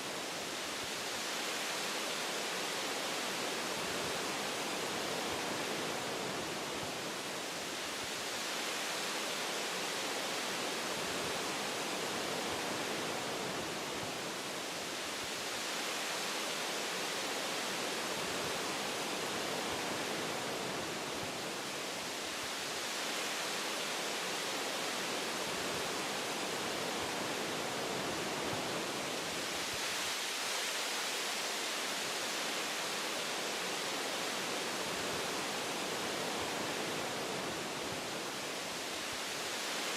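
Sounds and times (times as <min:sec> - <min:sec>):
wind through tree branches: 0:00.0 - 0:39.9.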